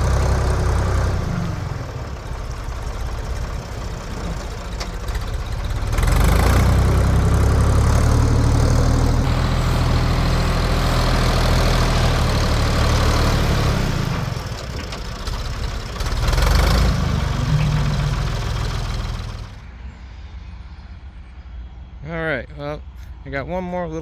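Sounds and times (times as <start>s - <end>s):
backhoe diesel engine running: 0.0s - 19.6s.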